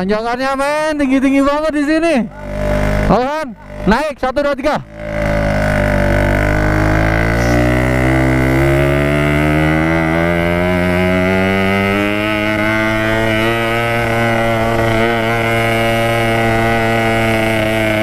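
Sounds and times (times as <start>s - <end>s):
motorcycle engine pulling under load: 2.3s - 18.0s.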